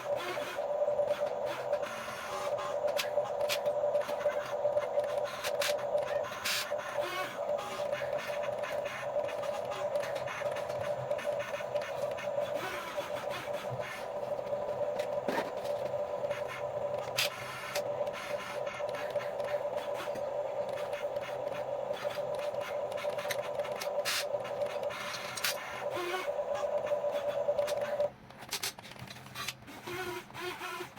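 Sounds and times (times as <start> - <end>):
small electric motors whirring: 0.0 - 30.9
sharp clicks and scrapes: 0.2 - 30.9.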